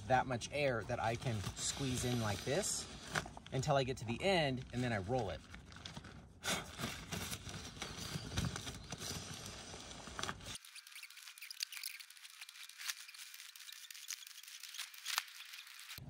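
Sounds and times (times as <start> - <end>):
nylon bag rustling and crinkling: 1.0 - 3.7, 4.5 - 16.0.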